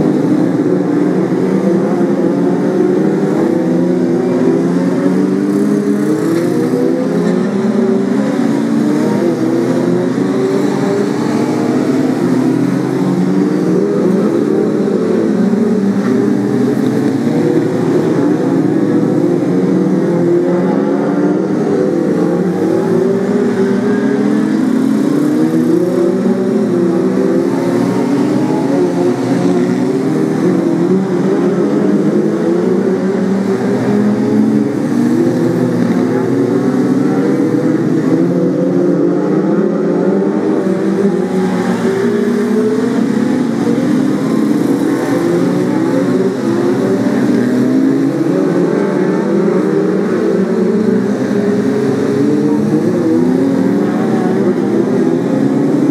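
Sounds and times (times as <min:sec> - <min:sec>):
stock car engines racing: 0:00.0 - 0:55.9.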